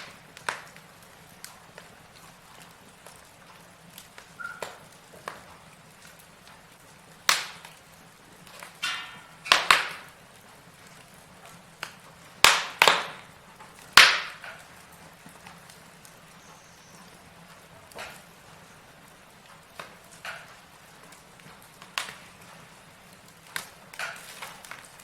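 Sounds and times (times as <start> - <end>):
logs crackling in fireplace: 0.0 - 25.0
low steady fire hiss: 0.0 - 25.0.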